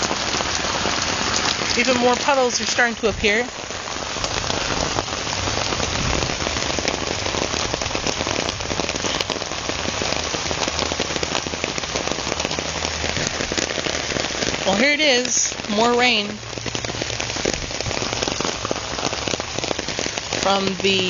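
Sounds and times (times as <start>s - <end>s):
heavy rain on wet ground: 0.0s - 21.0s.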